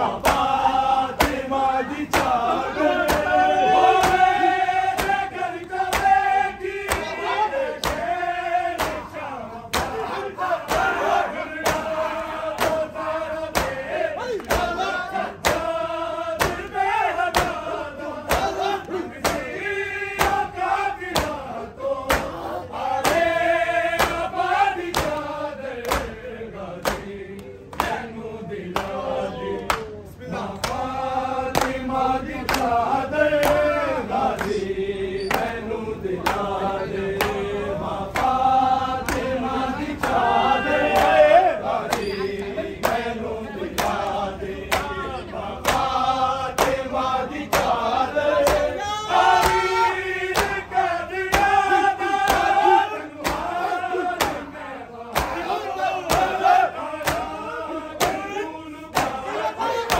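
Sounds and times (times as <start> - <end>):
men chanting together: 0.0 - 59.9.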